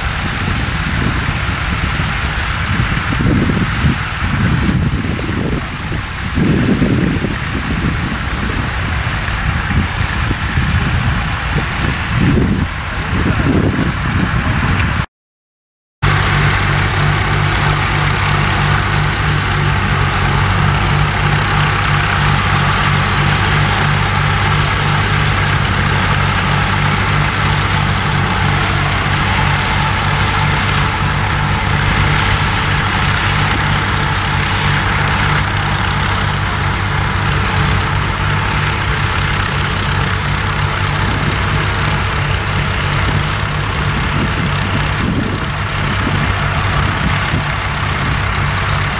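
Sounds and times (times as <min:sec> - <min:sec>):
tractor engine running: 0:00.0 - 0:15.1, 0:16.0 - 0:48.9.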